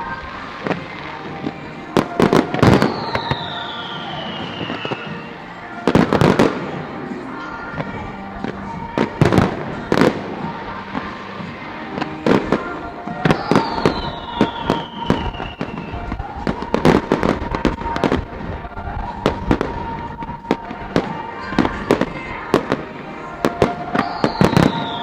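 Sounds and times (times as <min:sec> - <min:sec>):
falling firework whistle: 0:00.0 - 0:25.0
fireworks bangs and cracks: 0:00.0 - 0:25.0.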